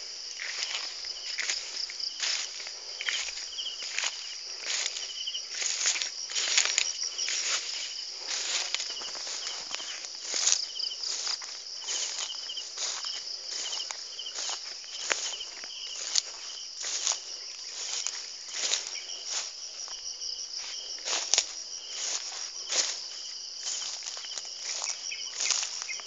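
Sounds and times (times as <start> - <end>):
footsteps through grass: 0.0 - 26.0
high insect buzz: 0.0 - 26.0.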